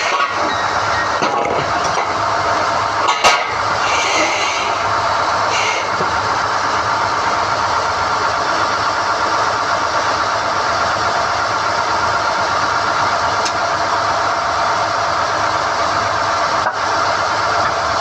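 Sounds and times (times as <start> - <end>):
drilling rig engine running: 0.0 - 18.0.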